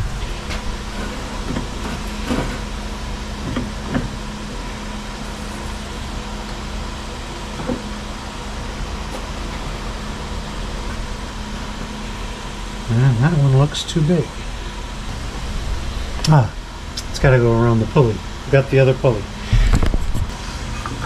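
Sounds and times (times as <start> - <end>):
mechanical background hum: 0.0 - 21.0.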